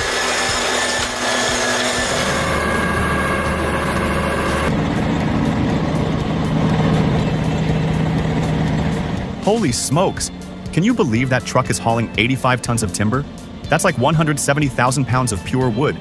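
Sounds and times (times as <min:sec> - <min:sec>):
diesel truck engine under load: 0:00.0 - 0:16.0
heavy machinery engine running: 0:00.0 - 0:16.0.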